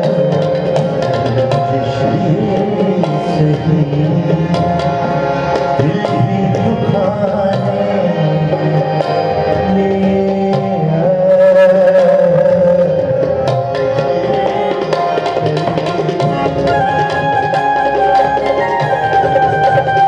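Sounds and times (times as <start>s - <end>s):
held harmonium notes: 0.0s - 20.0s
tabla strokes: 0.0s - 20.0s.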